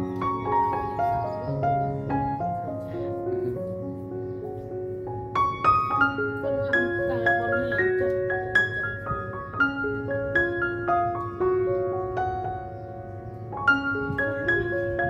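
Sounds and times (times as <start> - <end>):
gentle piano-like tune: 0.0 - 15.0.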